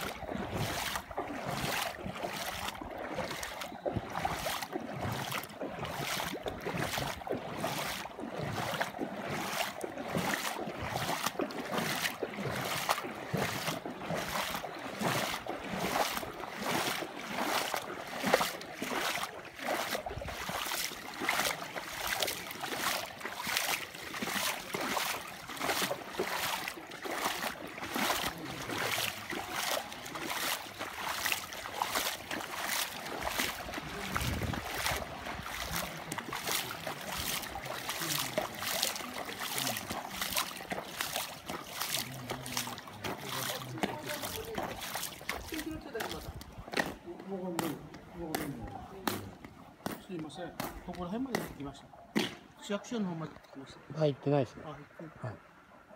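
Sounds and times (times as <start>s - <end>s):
footsteps walking: 0.0s - 51.6s.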